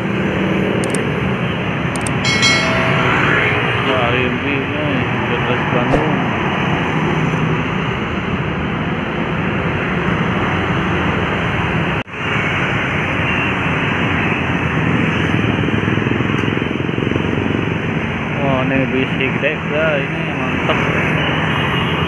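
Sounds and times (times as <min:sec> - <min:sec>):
vehicles passing on road: 0:00.0 - 0:22.0.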